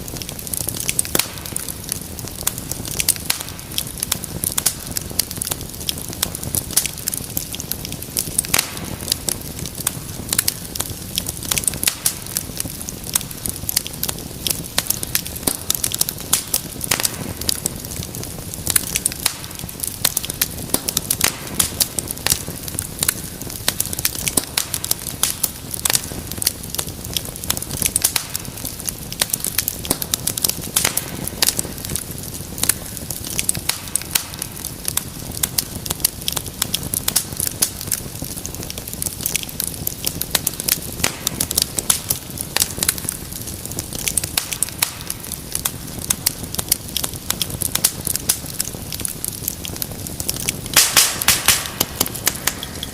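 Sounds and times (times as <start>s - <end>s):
low hiss of flames: 0.0s - 52.9s
wood fire popping and snapping: 0.0s - 52.9s.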